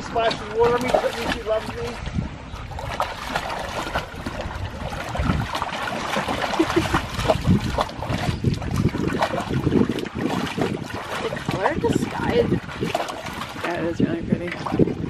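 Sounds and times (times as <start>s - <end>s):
dogs splashing in water: 0.0s - 15.0s.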